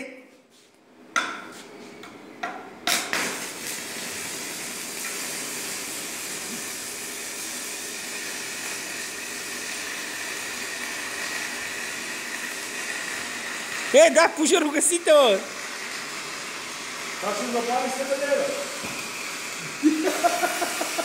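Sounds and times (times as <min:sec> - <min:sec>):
welding arc sizzling hiss: 0:02.8 - 0:21.0
welding electrode crackles: 0:02.9 - 0:21.0.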